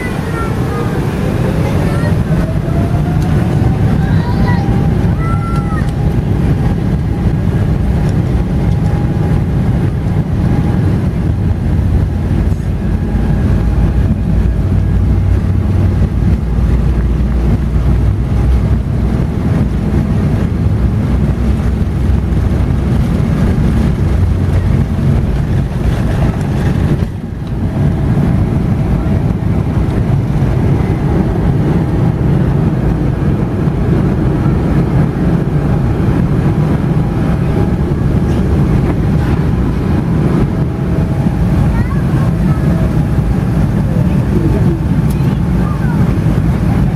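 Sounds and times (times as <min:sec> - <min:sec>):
jet engine rumble: 0:00.0 - 0:46.9.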